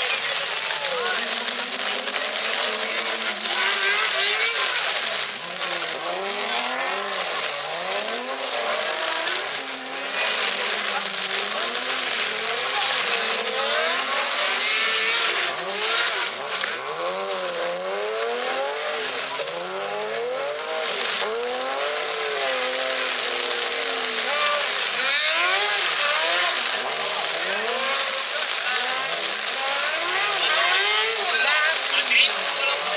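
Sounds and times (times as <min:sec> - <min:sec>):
heavy rain hissing: 0:00.0 - 0:32.9
rally car engine revving: 0:00.0 - 0:32.9.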